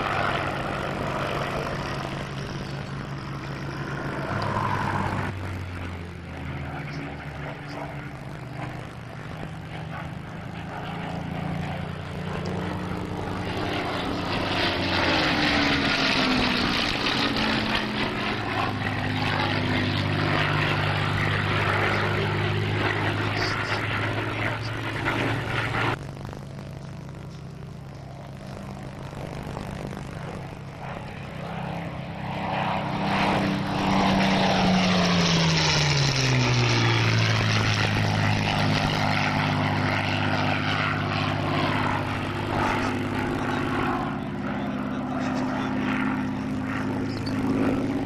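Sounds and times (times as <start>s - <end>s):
aircraft engine and propeller passing: 0.0s - 48.0s.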